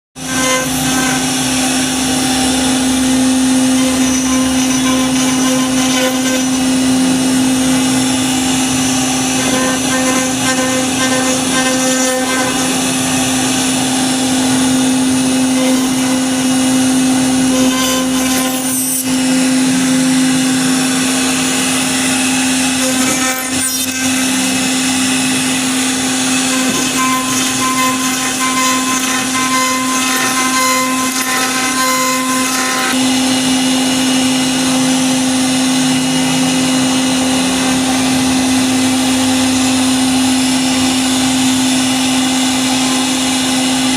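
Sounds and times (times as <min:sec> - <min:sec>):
bit cutting wood: 0:00.2 - 0:39.2
router spindle humming: 0:00.2 - 0:43.9.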